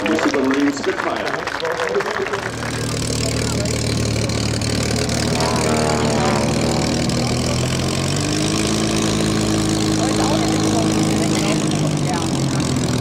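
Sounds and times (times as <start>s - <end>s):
propeller aircraft engine taxiing: 0.0s - 13.0s.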